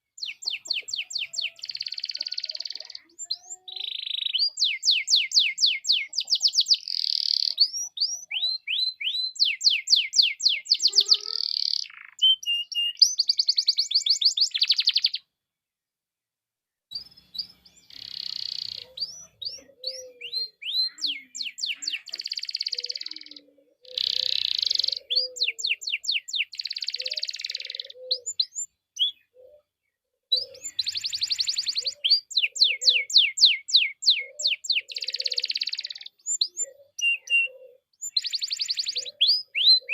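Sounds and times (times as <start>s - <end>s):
canary singing trills: 0.0s - 15.3s, 16.9s - 39.9s.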